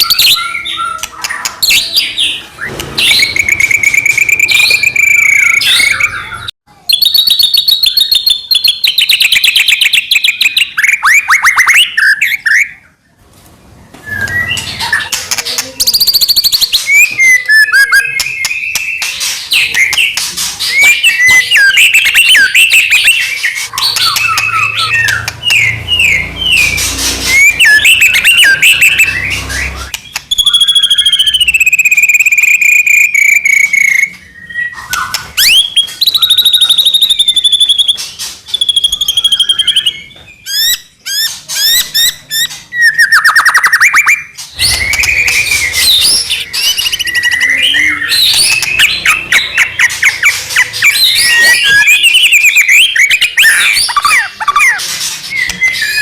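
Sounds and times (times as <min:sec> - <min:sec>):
songbird singing whistles and trills: 0:00.0 - 0:12.9, 0:14.0 - 0:56.0.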